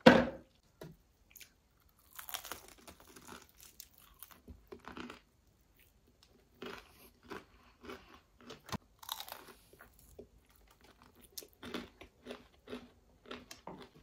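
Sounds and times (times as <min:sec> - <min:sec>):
crunchy chewing: 0:01.3 - 0:14.0.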